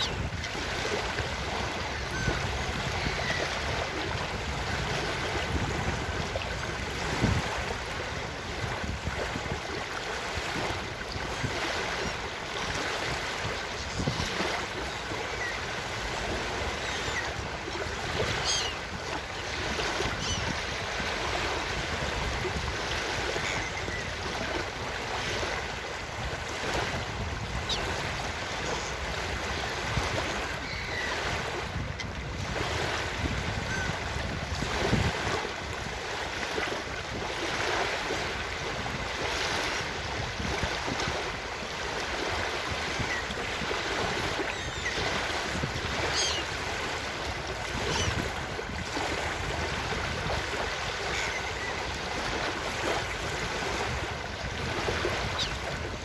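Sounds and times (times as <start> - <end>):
ocean waves washing onto beach: 0.0 - 56.0
wind: 0.0 - 56.0.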